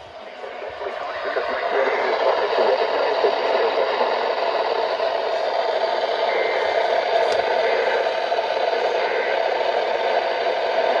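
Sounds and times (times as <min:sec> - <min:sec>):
radio static hiss: 0:00.0 - 0:10.4.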